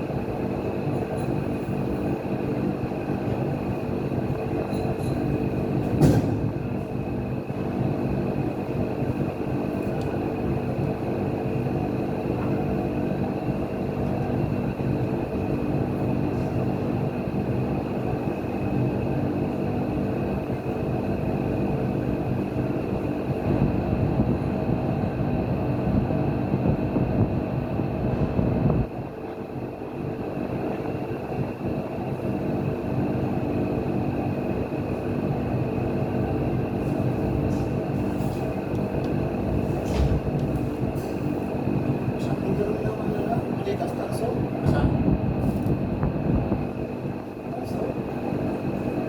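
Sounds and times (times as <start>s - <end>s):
machinery low hum: 0.0s - 49.0s.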